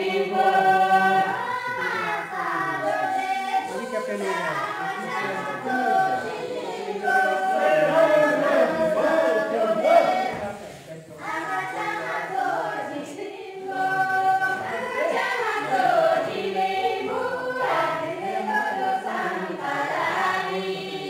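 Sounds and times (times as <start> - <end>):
group singing folk song: 0.0 - 21.0.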